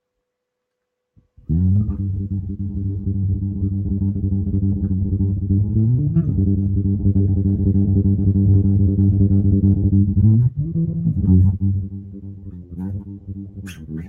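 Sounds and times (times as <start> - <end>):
bass guitar riff: 1.3 - 14.0.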